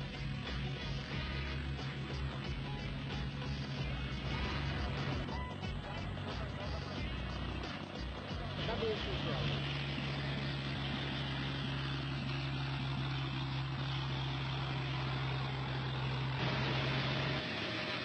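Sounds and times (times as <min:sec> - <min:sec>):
light aircraft engine running: 0:00.0 - 0:18.0.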